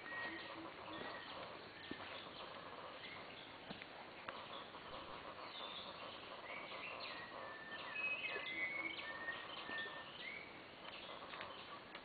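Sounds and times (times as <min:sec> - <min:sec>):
birds whistling: 0:00.0 - 0:12.0
jungle background hiss: 0:00.0 - 0:12.0.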